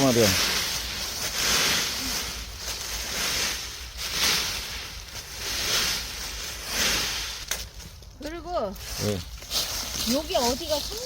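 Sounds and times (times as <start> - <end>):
rake scraping dry leaves: 0.0 - 11.0.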